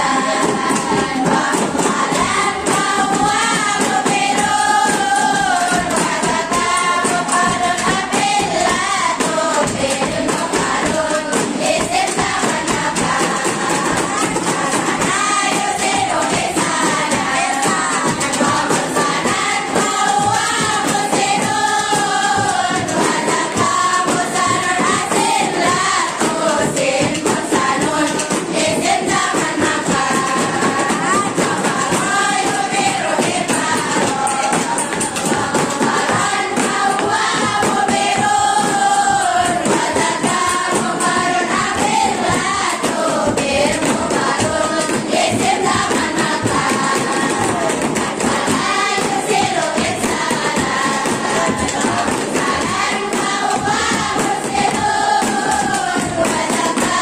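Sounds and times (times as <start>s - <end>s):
girls chanting in unison: 0.0s - 57.0s.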